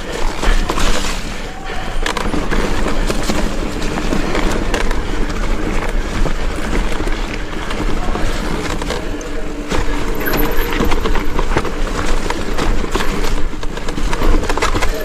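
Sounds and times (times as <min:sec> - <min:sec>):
bike knocks and rattles: 0:00.0 - 0:15.0
tyres rumbling on trail: 0:00.0 - 0:15.0
wind: 0:00.0 - 0:15.0.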